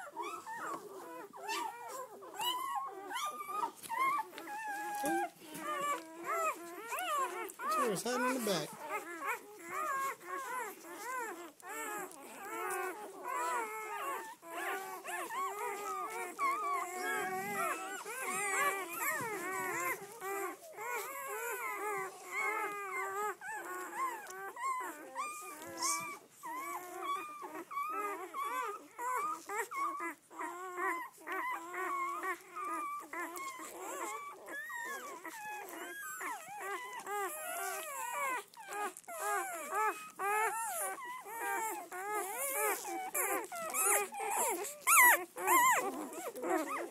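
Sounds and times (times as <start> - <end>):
puppies squeaking and whimpering: 0.0 - 46.9.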